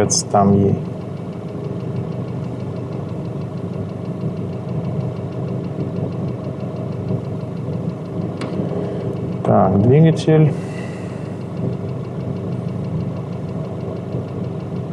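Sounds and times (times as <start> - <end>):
diesel engine idling with clatter: 0.0 - 14.9.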